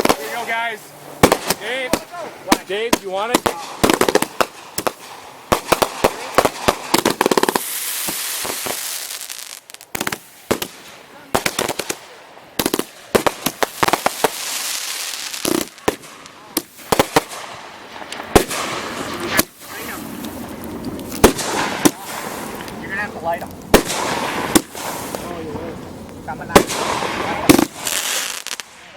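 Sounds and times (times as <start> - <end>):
firework bangs: 0.0 - 28.9
firework crackling and hissing: 0.0 - 28.9.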